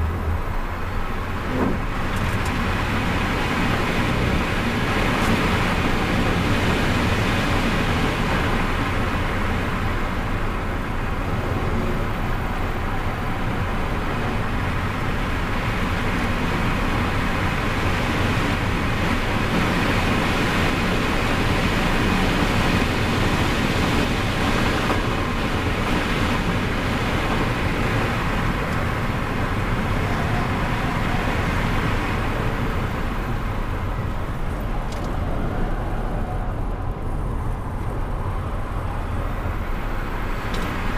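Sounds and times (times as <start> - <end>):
wind and tyre noise: 0.0 - 40.9.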